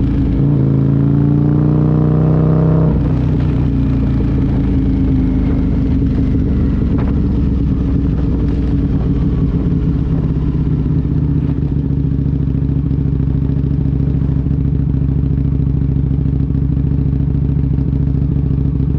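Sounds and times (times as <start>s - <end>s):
motorcycle engine at low revs: 0.0s - 18.9s.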